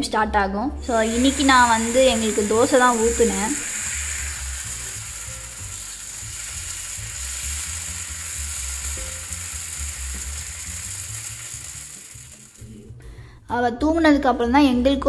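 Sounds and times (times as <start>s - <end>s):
batter sizzling on hot pan: 0.8s - 13.0s.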